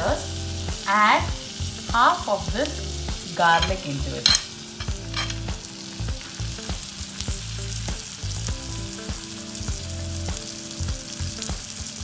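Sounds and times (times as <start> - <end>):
garlic sizzling in butter: 0.0 - 12.0.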